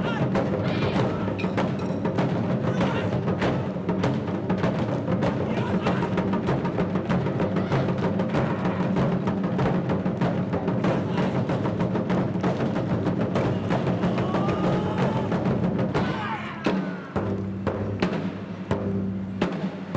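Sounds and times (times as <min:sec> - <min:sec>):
ensemble of drums playing fast: 0:00.0 - 0:19.9.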